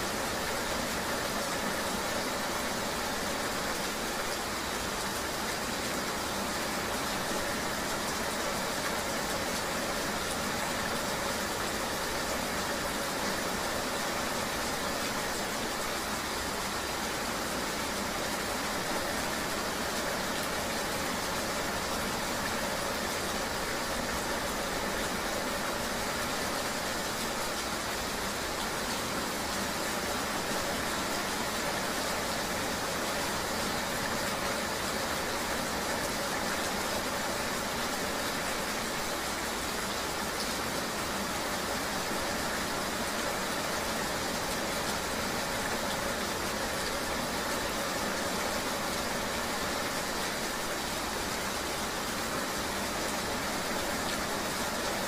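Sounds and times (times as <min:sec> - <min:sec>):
rain: 0:00.0 - 0:55.0.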